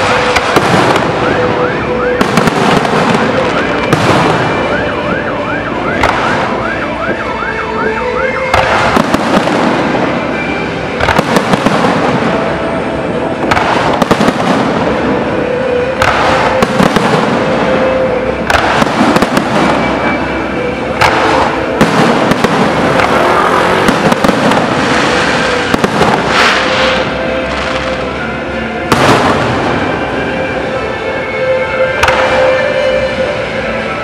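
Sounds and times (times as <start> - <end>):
firework bangs: 0.0 - 5.2, 5.8 - 7.2, 8.2 - 28.1, 28.8 - 30.3, 32.0 - 32.9
firework crackling: 0.0 - 28.2, 28.8 - 30.2, 32.0 - 32.9.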